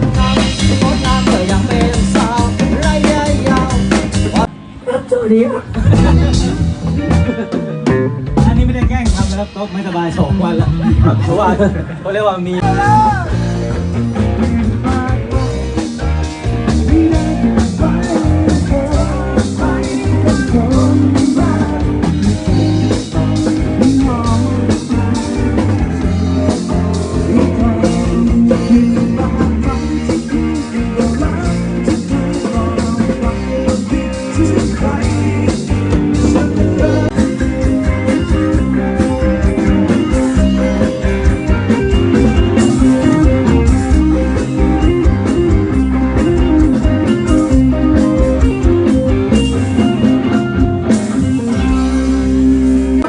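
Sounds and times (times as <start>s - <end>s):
person singing: 0.0s - 8.5s, 14.5s - 53.0s
rock band playing: 0.0s - 53.0s.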